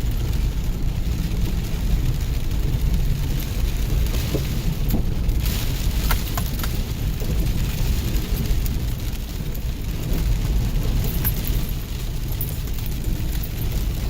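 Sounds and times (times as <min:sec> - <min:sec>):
rain: 0:00.0 - 0:14.0
vehicle engine and tyres rumbling: 0:00.0 - 0:14.0.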